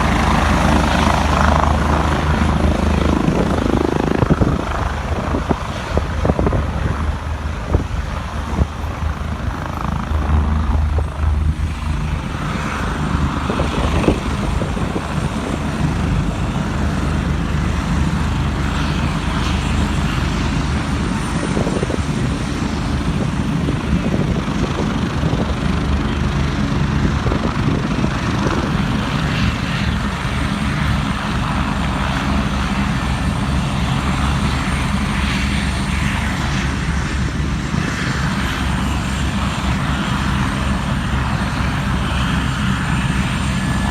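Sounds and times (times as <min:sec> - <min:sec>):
helicopter rotor pulsing beat: 0:00.0 - 0:43.9
helicopter turbine running: 0:00.0 - 0:43.9.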